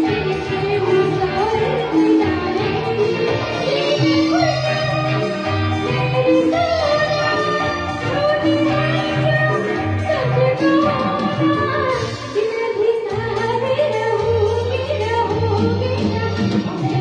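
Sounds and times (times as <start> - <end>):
instrumental accompaniment: 0.0 - 17.0
woman singing: 0.0 - 17.0.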